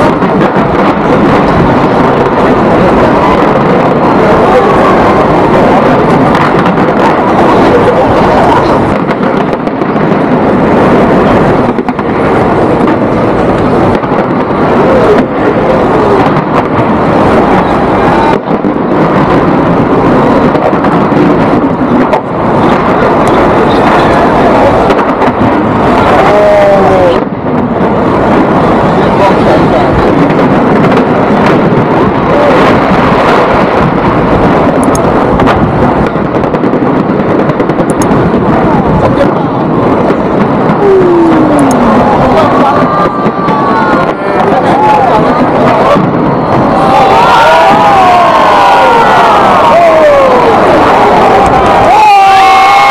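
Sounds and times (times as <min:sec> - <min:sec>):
fireworks barrage rumbling: 0:00.0 - 0:52.9.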